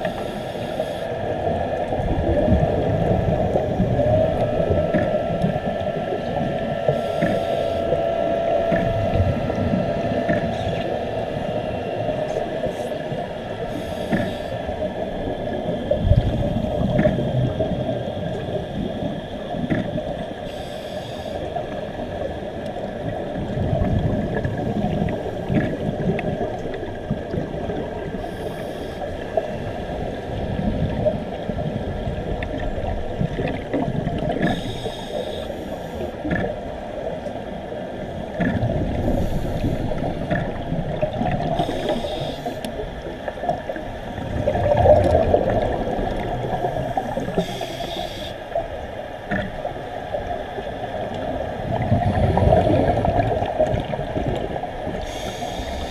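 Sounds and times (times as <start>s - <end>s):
faint steady whine: 0.0s - 55.9s
underwater bubbles gurgling: 0.0s - 55.9s.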